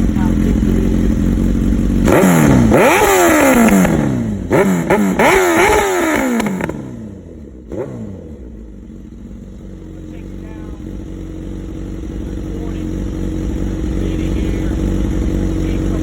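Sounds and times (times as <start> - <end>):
motorcycle engine idling: 0.0 - 16.0
motorcycle engine revving: 0.0 - 16.0.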